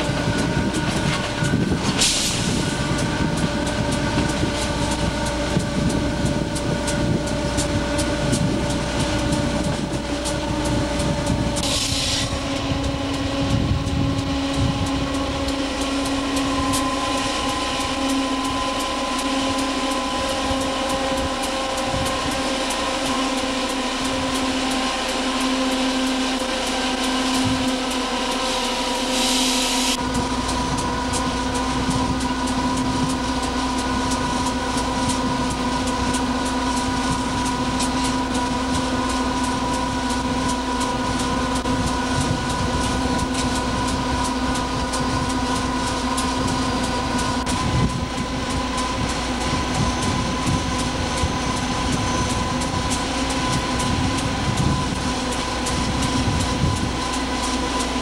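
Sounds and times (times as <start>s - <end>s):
locomotive cab hum: 0.0s - 58.0s
wheels rumbling on rail: 0.0s - 58.0s.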